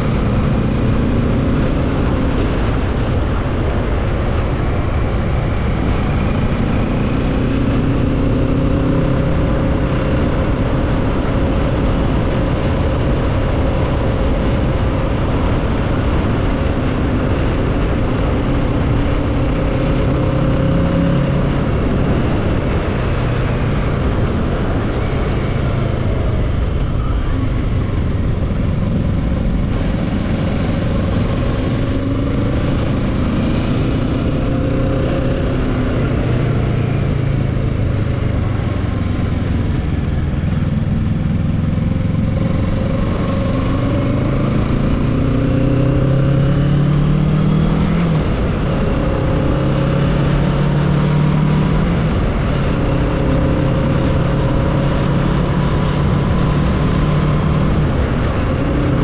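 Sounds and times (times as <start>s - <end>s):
motorcycle engine running: 0.0s - 59.0s
rush of riding noise: 0.0s - 59.0s.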